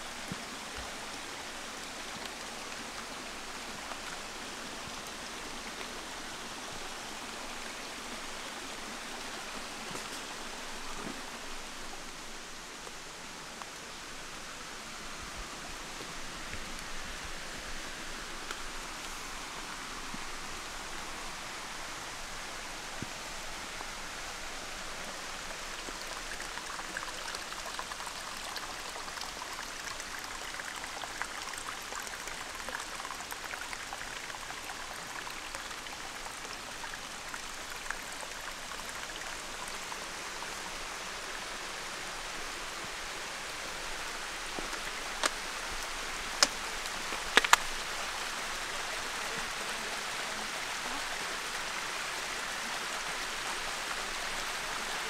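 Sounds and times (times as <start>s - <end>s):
water trickling over rock: 0.0s - 55.0s.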